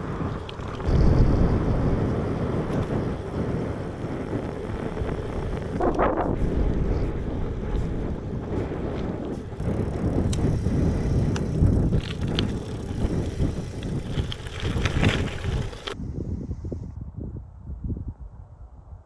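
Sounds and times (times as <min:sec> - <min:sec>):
bike tyres rumbling on road: 0:00.0 - 0:16.0
wind buffeting microphone: 0:00.0 - 0:19.0.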